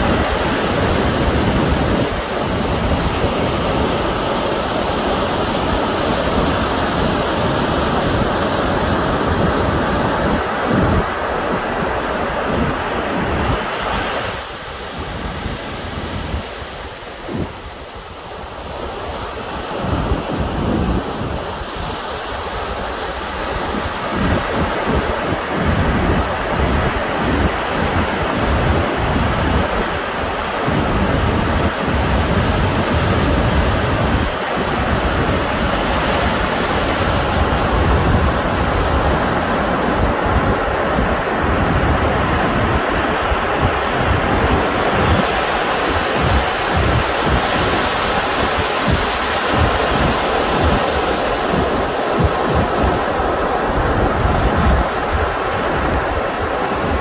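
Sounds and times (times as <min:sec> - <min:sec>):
surf washing: 0:00.0 - 0:57.0
wind gusting on microphone: 0:00.0 - 0:57.0.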